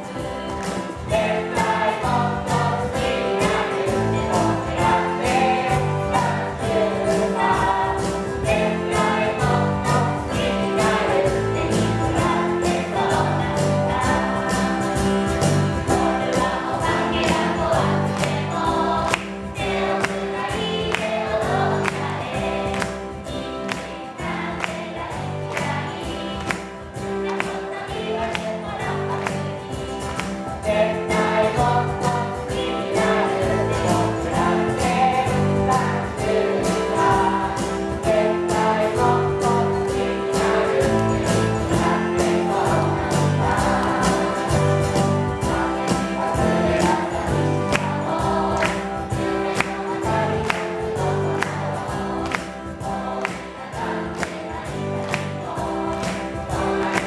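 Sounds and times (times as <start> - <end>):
group singing in unison: 0.0 - 57.0
instrumental accompaniment with beat: 0.0 - 57.0.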